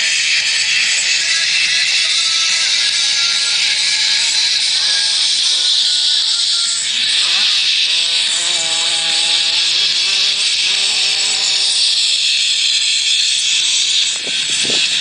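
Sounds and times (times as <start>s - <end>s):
steady hiss: 0.0s - 15.0s
motocross bike engines revving: 1.0s - 15.0s.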